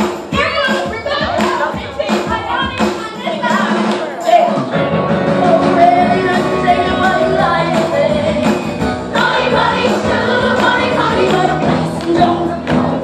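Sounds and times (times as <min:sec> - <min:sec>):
upbeat pop song with singing: 0:00.0 - 0:13.0.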